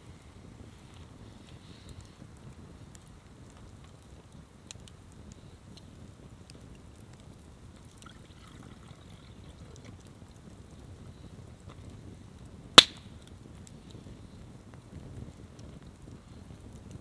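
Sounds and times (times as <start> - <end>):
campfire crackling softly: 0.0 - 17.0.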